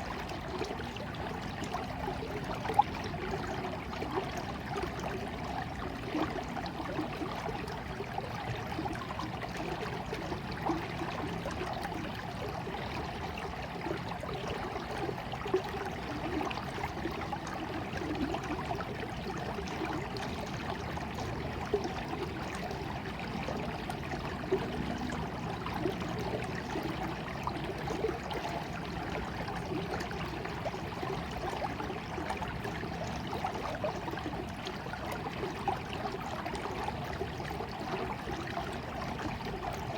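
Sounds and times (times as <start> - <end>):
stream water babbling: 0.0 - 39.9
water splashes: 0.0 - 39.9.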